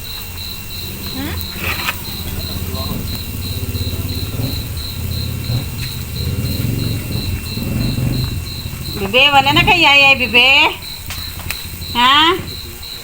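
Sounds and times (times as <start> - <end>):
cricket chirping: 0.0 - 13.0
faint voices: 0.0 - 13.0
low background rumble: 0.1 - 13.0.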